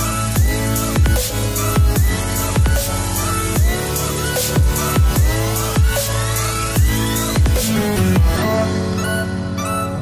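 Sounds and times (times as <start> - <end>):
held synth chords: 0.0 - 10.0.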